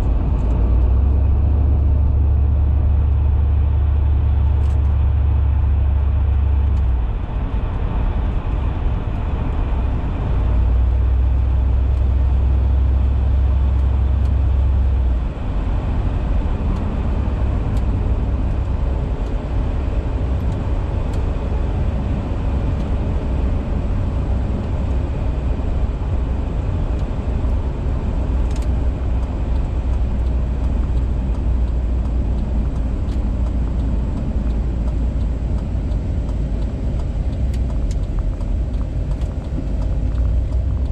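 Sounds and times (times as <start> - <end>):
low exhaust drone in car cabin: 0.0 - 40.9
road noise: 0.0 - 40.9.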